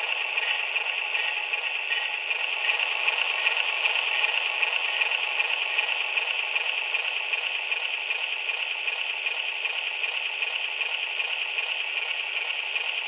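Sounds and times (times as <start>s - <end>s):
rattly diesel engine drone from speaker: 0.0s - 13.0s.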